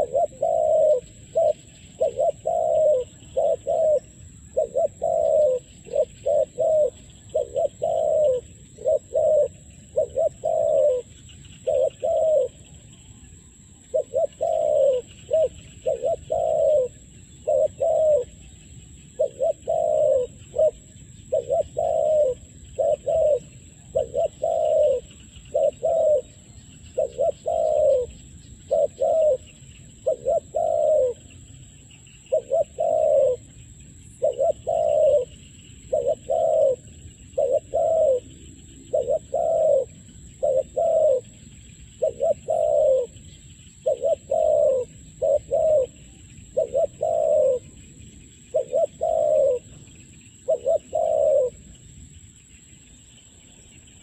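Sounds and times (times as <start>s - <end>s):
dove cooing: 0.0s - 13.2s, 13.8s - 51.8s.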